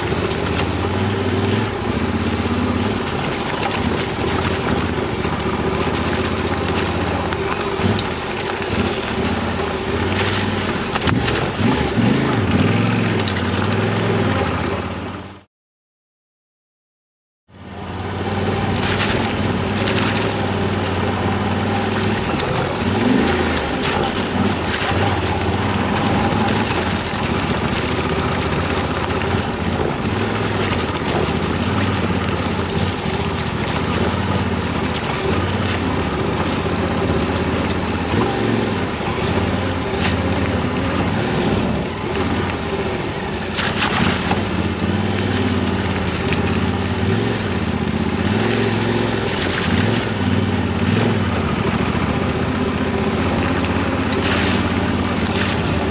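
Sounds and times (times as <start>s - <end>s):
motorcycle engine running: 0.0s - 15.5s, 17.5s - 55.9s
tyres on gravel track: 0.0s - 15.5s, 17.5s - 55.9s.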